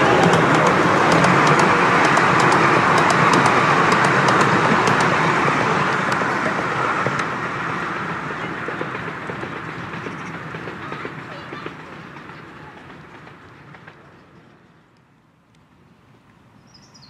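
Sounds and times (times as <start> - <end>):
train wheels rumbling and clicking: 0.0 - 16.4.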